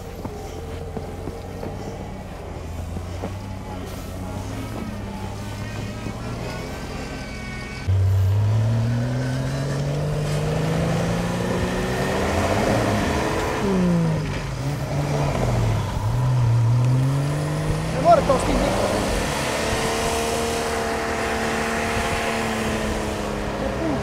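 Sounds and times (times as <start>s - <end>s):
vehicle engine revving hard: 4.0s - 24.0s.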